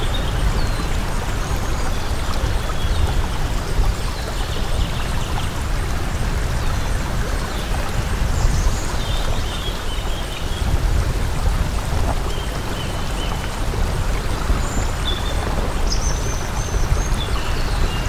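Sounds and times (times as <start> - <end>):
running water: 0.0 - 18.0.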